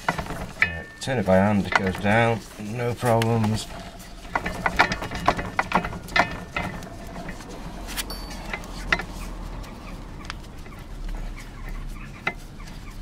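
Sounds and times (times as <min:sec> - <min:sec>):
chickens clucking: 0:01.4 - 0:13.0.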